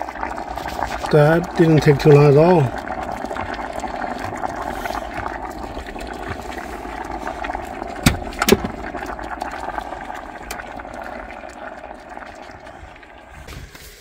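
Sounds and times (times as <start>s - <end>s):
electric kettle water boiling: 0.0s - 14.0s.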